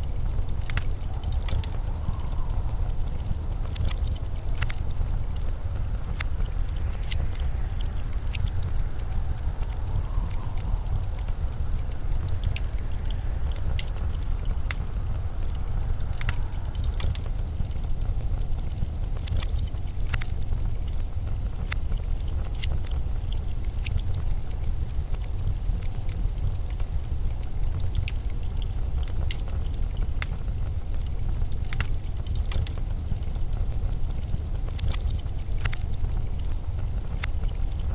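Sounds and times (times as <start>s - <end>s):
blizzard wind rumbling: 0.0s - 37.9s
sharp clicks and crackles: 0.0s - 37.9s
sharp little ticks: 0.0s - 37.9s.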